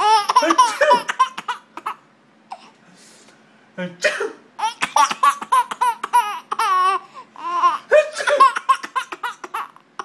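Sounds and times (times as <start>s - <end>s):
baby laughing: 0.0s - 2.7s, 4.6s - 10.0s.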